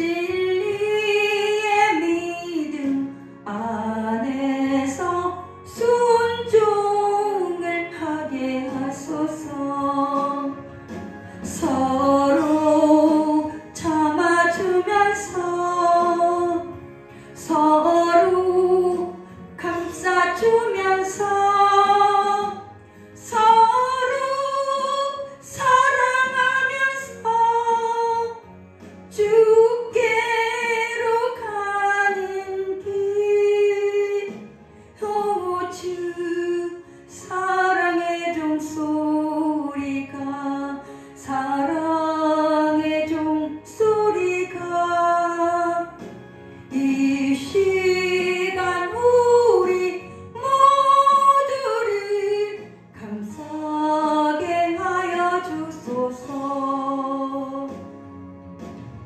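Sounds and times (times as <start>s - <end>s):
woman singing into microphone: 0.0s - 58.0s
musical accompaniment: 0.0s - 59.0s.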